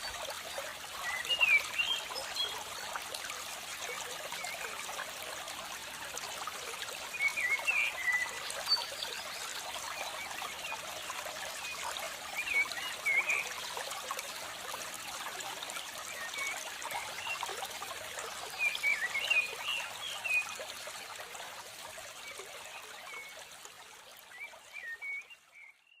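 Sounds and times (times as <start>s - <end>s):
water trickling: 0.0s - 25.7s.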